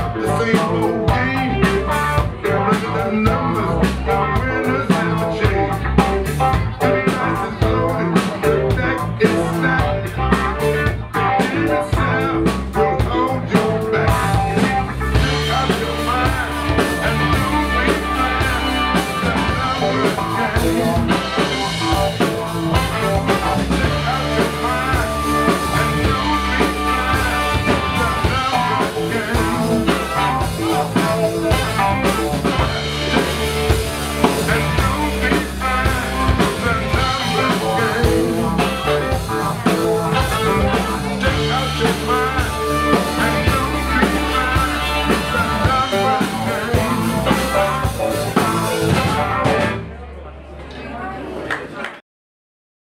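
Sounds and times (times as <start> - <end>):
drum kit beat: 0.0 - 49.8
electric guitar: 0.0 - 50.0
electric bass: 0.0 - 50.5.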